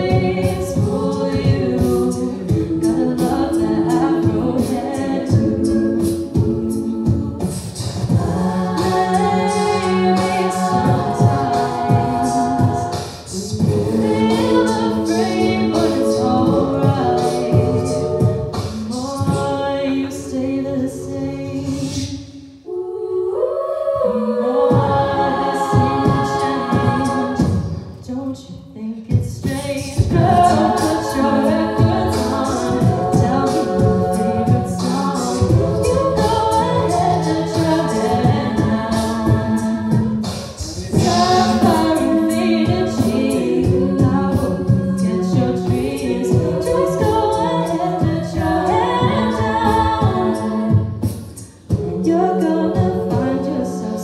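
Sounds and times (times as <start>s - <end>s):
beatboxed vocal percussion: 0.0s - 22.5s, 24.6s - 54.0s
women singing a cappella: 0.0s - 54.0s.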